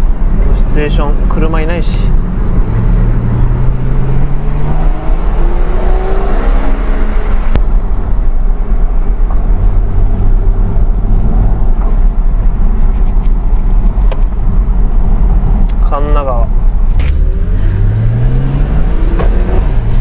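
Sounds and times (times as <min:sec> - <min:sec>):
car engine accelerating: 0:00.0 - 0:20.0
road noise inside cabin: 0:00.0 - 0:20.0.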